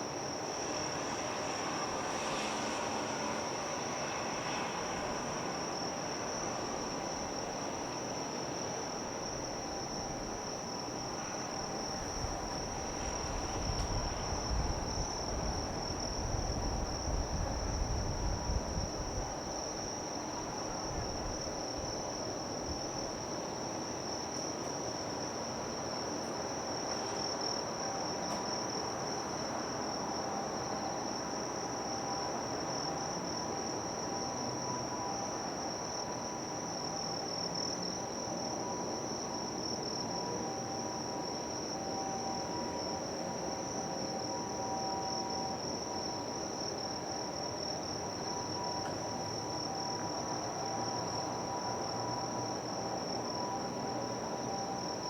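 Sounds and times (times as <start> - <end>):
low city rumble: 0.0 - 55.0
insects chirring: 0.1 - 55.0.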